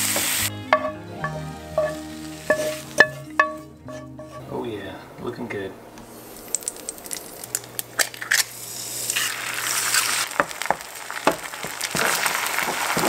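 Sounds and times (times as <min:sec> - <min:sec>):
eggs sizzling in a skillet: 0:00.0 - 0:03.7, 0:06.0 - 0:13.0.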